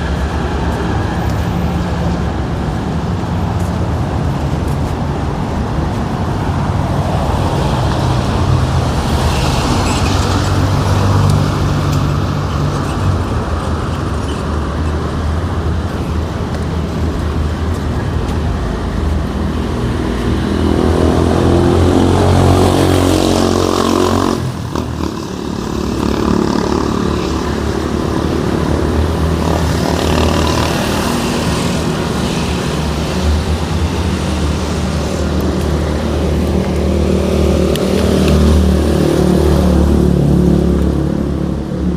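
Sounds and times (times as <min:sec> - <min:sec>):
vehicles passing: 0:00.0 - 0:41.9.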